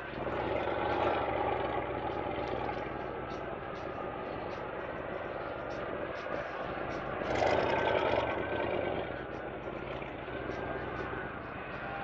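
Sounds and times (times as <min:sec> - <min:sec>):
car engine idling: 0:00.0 - 0:12.0
rush of noise: 0:00.0 - 0:12.0.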